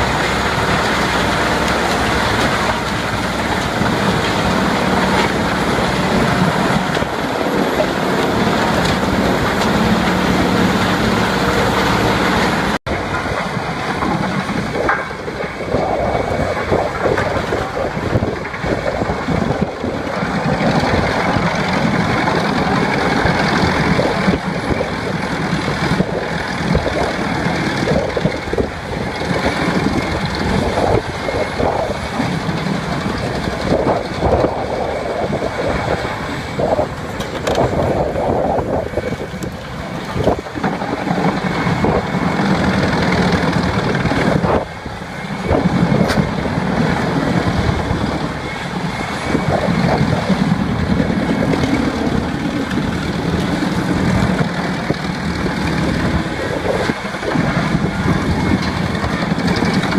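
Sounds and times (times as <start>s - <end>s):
wood chipper engine hum: 0.0s - 59.9s.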